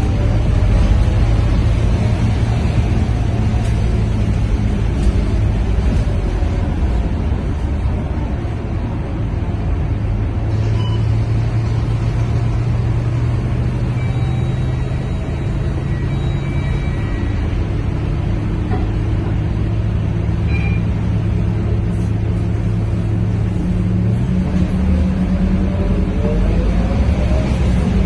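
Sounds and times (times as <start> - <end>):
bus diesel engine droning: 0.0 - 28.0.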